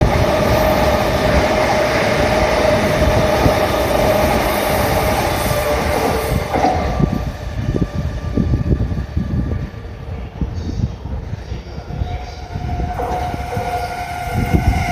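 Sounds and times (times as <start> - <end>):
steady train tone: 0.0 - 14.9
train wheels on rails: 0.0 - 14.9.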